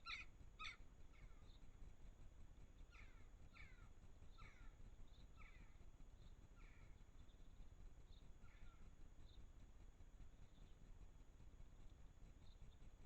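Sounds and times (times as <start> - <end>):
faint bird chirps: 0.0 - 1.8, 2.6 - 9.7, 10.3 - 11.1, 11.7 - 13.0.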